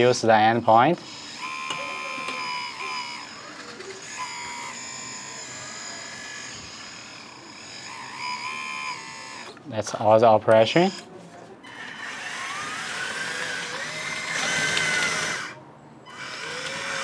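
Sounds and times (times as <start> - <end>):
electric hydraulic pump whining: 0.9 - 9.6, 11.7 - 17.0.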